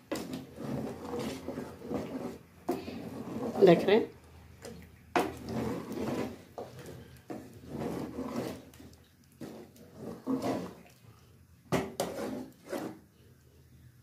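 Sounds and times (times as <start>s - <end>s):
wooden spatula scraping pot: 0.0s - 13.4s.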